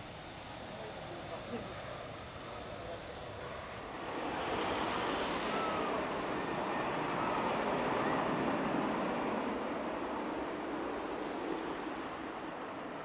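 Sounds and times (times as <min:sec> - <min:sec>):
faint engine whine: 0:00.0 - 0:13.0
jet engine rush: 0:00.0 - 0:13.0.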